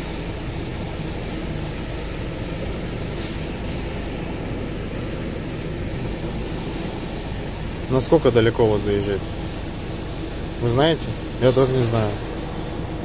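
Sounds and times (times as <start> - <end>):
van engine running inside cab: 0.0 - 13.0.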